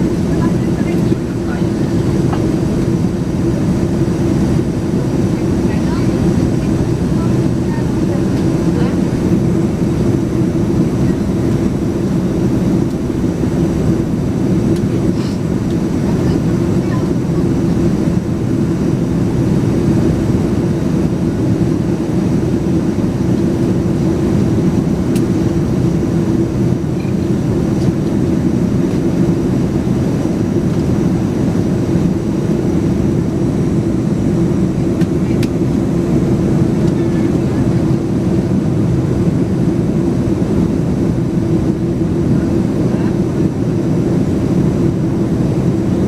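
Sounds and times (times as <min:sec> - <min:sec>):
airplane cabin engine drone: 0:00.0 - 0:46.0.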